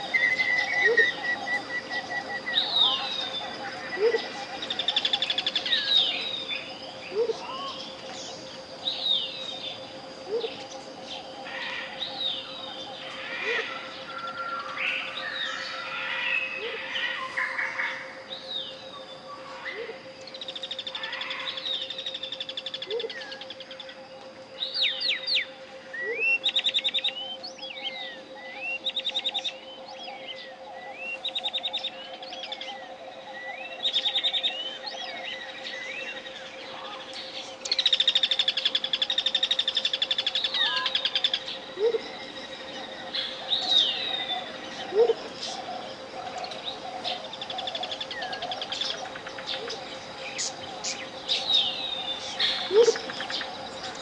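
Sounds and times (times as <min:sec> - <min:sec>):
jungle birds trilling and chirping: 0:00.0 - 0:54.0
steady pure tone: 0:00.0 - 0:54.0.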